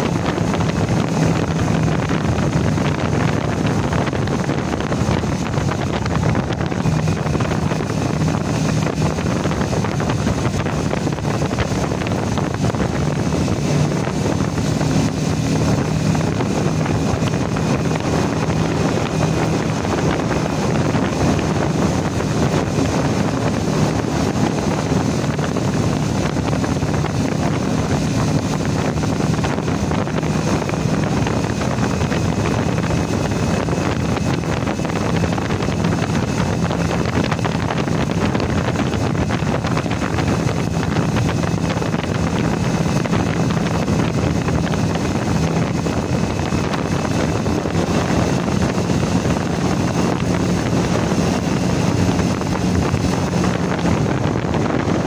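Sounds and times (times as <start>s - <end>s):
motorcycle engine hum: 0.0s - 55.0s
wind rushing over microphone: 0.0s - 55.0s.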